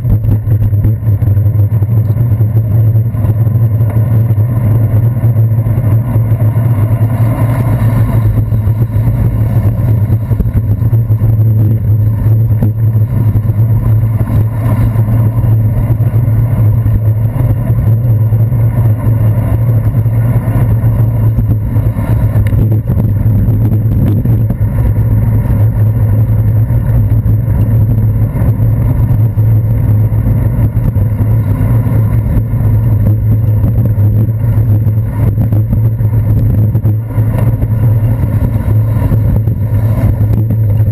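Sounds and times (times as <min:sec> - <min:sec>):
bicycle riding on wet streets: 0:00.0 - 0:40.9
car traffic: 0:00.0 - 0:40.9.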